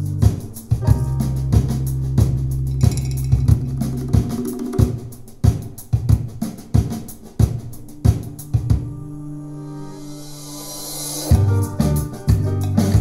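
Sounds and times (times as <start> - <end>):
music with drum beat on speaker: 0.0 - 9.0, 11.2 - 13.0.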